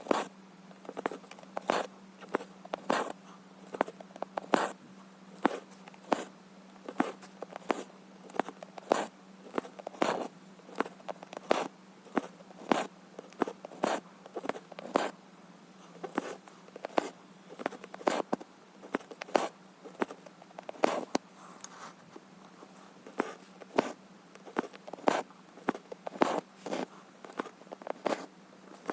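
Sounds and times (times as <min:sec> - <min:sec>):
needle stitching through fabric: 0:00.0 - 0:00.3, 0:00.9 - 0:04.8, 0:05.4 - 0:15.2, 0:16.0 - 0:21.2, 0:23.0 - 0:28.9.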